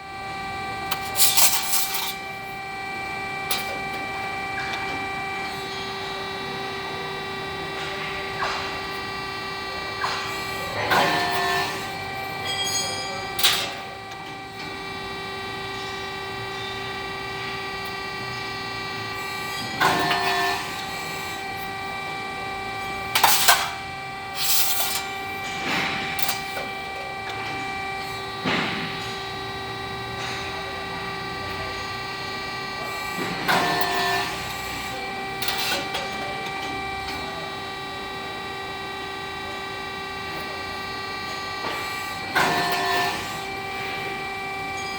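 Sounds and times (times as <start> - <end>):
press brake machine humming: 0.0 - 44.9.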